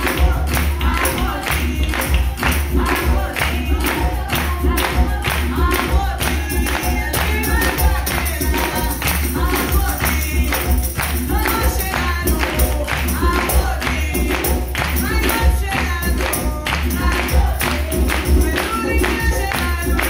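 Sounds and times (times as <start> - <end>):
hand drum: 0.0 - 20.0
hand-clapping rhythm: 0.0 - 20.0.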